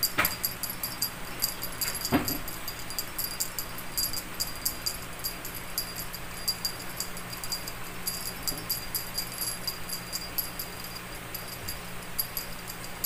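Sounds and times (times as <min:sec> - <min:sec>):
small jingle bell jingling: 0:00.0 - 0:13.0.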